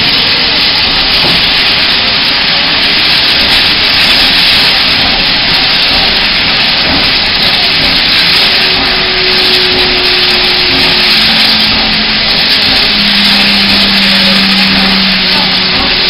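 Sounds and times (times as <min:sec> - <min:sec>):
steam train hissing: 0:00.0 - 0:16.0.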